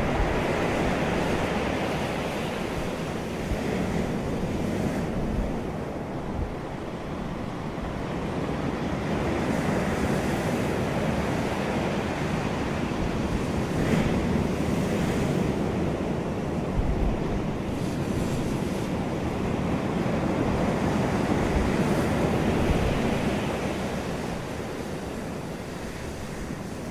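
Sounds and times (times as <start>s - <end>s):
sea waves breaking on shore: 0.0s - 26.9s
wind buffeting microphone: 0.0s - 26.9s.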